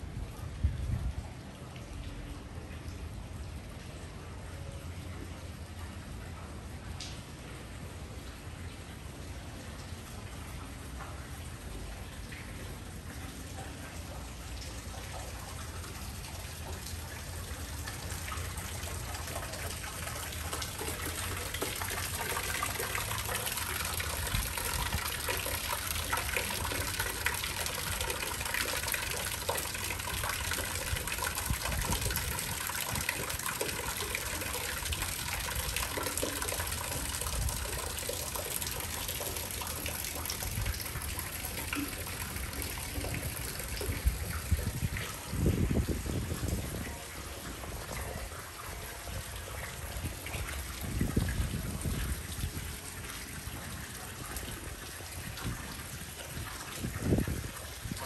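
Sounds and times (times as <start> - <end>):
fountain water splashing into basin: 0.0 - 58.0.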